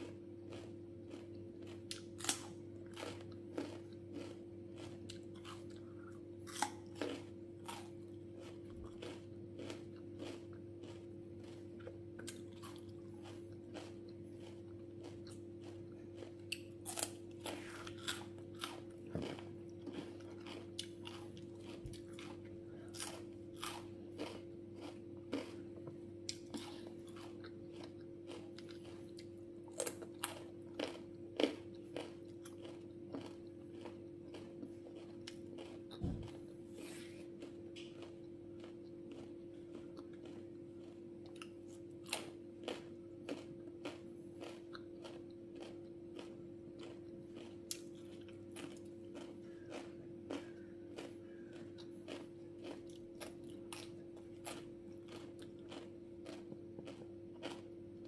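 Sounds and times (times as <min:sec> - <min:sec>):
biting and chewing crisp fruit: 0:00.0 - 0:58.0.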